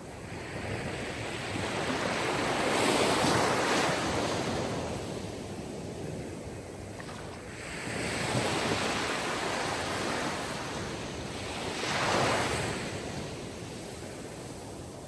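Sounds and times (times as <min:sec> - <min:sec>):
waves washing on shore: 0:00.2 - 0:15.0.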